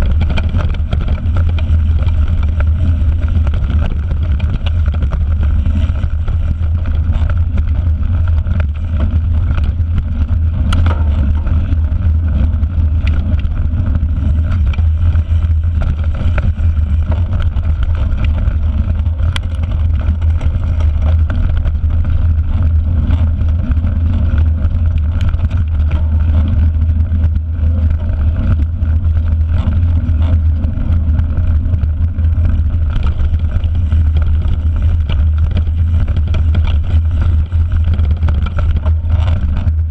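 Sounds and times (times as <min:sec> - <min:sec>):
sharp clicks and knocks: 0:00.0 - 0:39.9
tyre noise on dirt: 0:00.0 - 0:39.9
wind buffeting rumble: 0:00.0 - 0:39.9.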